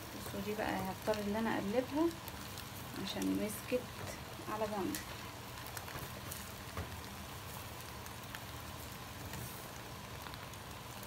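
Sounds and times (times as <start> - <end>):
chicken sizzling on grill tray: 0.0 - 11.0
pot of rice simmering: 0.0 - 11.0.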